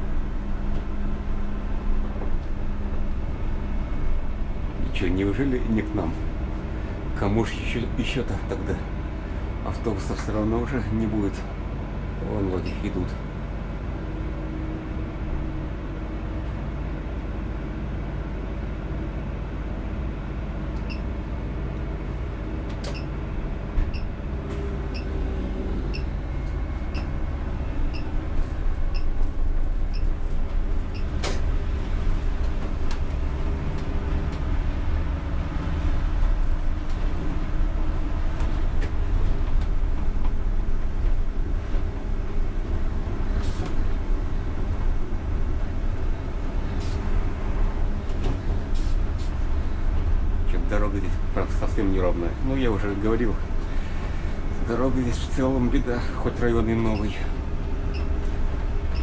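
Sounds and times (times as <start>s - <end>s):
traction and road rumble: 0.0s - 59.0s.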